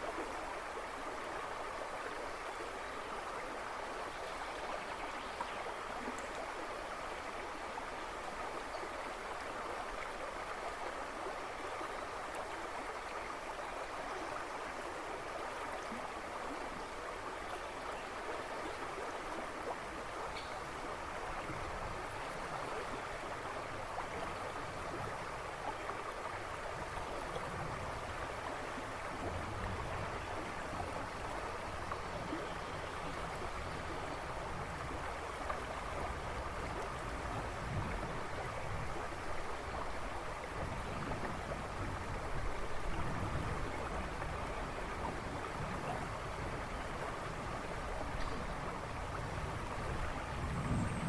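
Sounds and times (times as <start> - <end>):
river babbling over stones: 0.0 - 51.0.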